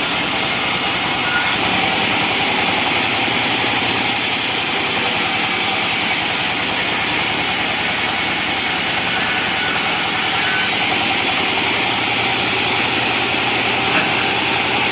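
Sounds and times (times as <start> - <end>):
hissing saw blade and motor: 0.0 - 14.9
sawmill machinery drone: 0.0 - 14.9.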